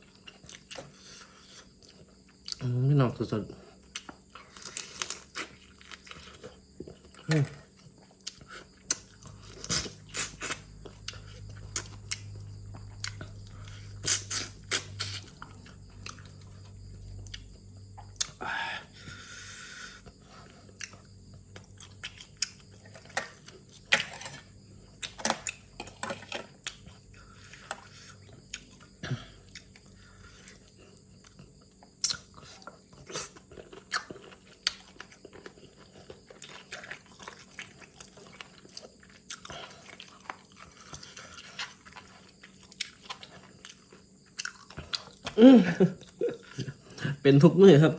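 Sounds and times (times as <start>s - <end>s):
chewing and crunching food: 0.0s - 47.8s.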